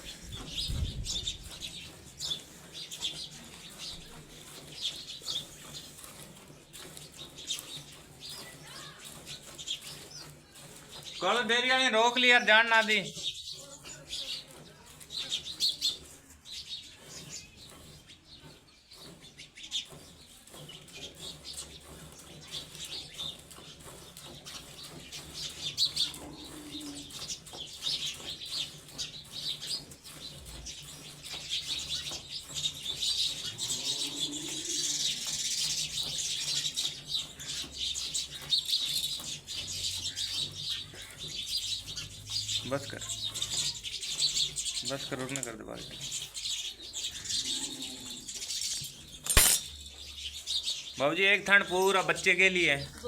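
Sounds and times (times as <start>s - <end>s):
milk squirting into a pail: 0.0s - 47.2s
small birds chirping: 0.0s - 53.0s.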